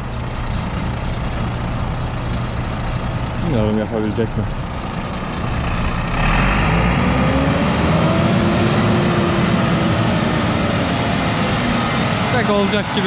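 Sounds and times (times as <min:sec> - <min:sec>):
truck diesel engine revving: 0:00.0 - 0:13.0.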